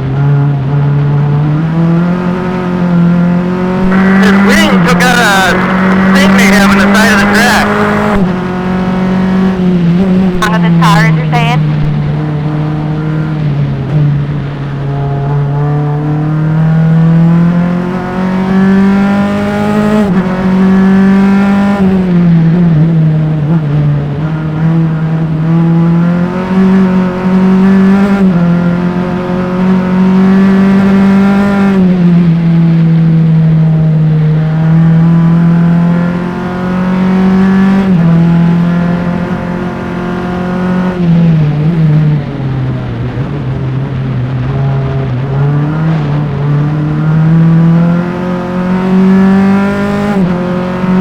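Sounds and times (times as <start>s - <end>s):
race car engine revving: 0.0s - 51.0s.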